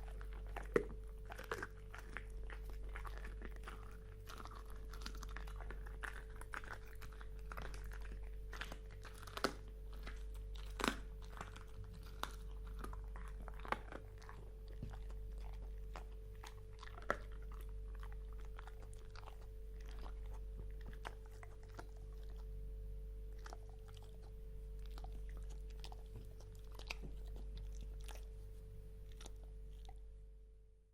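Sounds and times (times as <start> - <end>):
dog crunching bones: 0.0 - 22.6, 23.3 - 28.4, 29.0 - 30.0
steady low hum: 0.0 - 30.9.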